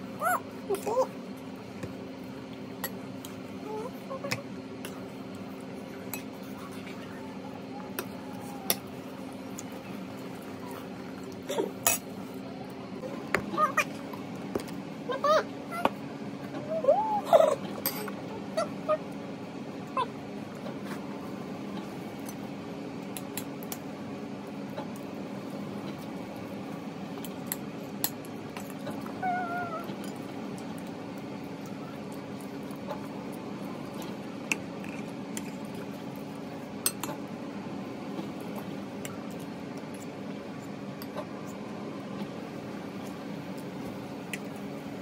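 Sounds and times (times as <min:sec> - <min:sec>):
low room hum: 0:00.0 - 0:45.0.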